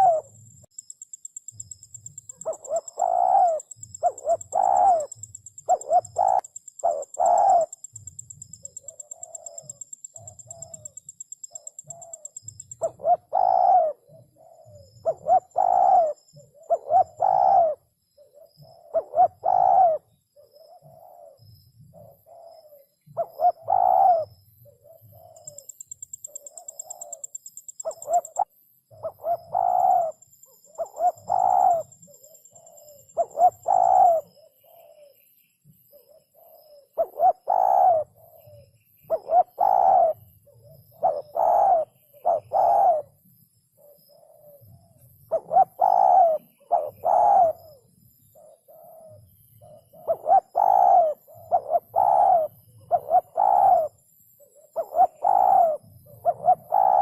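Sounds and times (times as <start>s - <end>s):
dove cooing: 0.0s - 0.5s, 1.5s - 35.2s, 35.9s - 43.2s, 43.8s - 57.0s.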